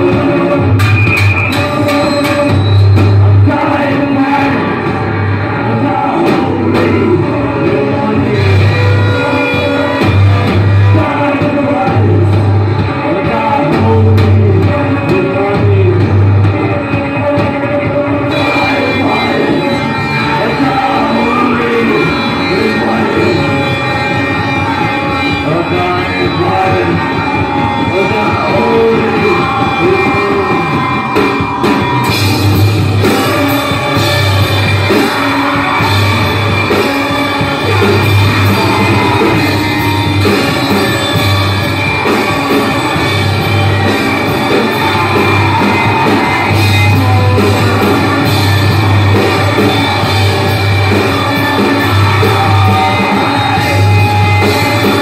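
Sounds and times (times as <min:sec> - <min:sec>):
heavy pulsing bass: 0:00.0 - 0:55.0
live rock band playing: 0:00.0 - 0:55.0
singing and shouting vocals: 0:00.0 - 0:55.0.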